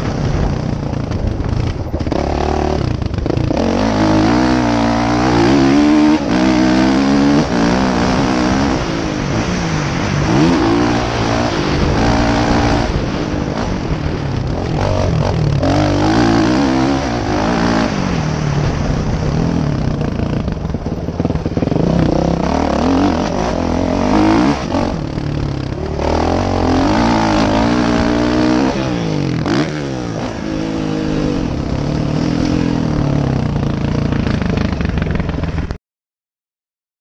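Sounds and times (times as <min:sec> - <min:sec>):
motocross bike engine revving: 0:00.0 - 0:35.8.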